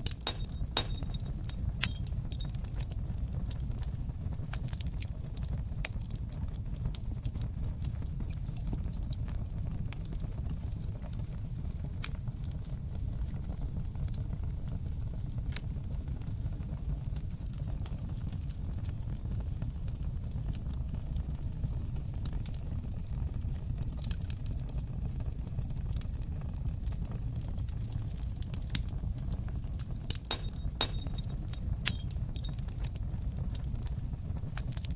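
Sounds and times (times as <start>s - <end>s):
fire pops and snaps: 0.0s - 34.9s
low rumble of flames: 0.0s - 34.9s.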